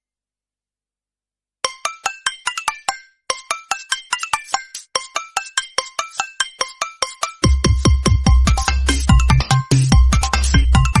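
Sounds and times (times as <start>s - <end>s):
mobile phone ringtone melody: 1.6s - 11.0s.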